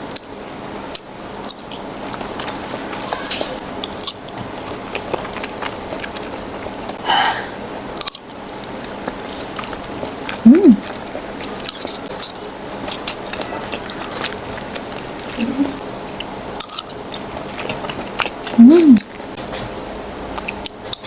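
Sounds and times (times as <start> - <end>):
wet chewing and biting: 0.0 - 7.0, 7.7 - 21.0.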